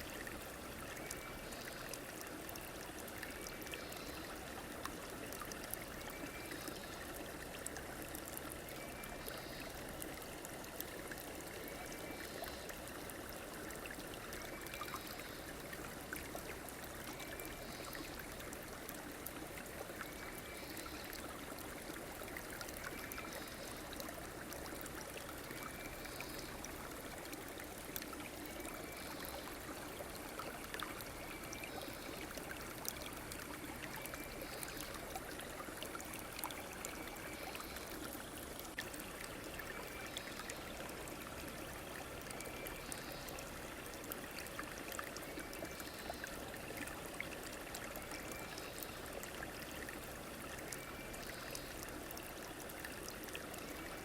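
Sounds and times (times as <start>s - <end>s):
river water over stones: 0.0s - 54.0s.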